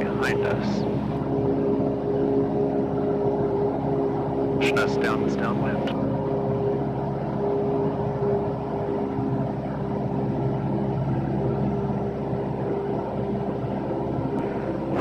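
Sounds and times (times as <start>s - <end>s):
airplane engine and propeller droning: 0.0s - 15.0s.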